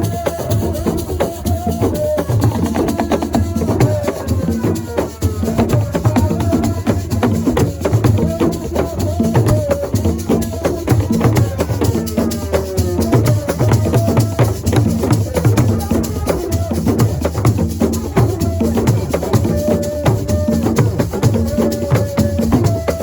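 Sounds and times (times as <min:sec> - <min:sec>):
fast drum percussion: 0:00.0 - 0:23.0
person singing: 0:00.0 - 0:23.0.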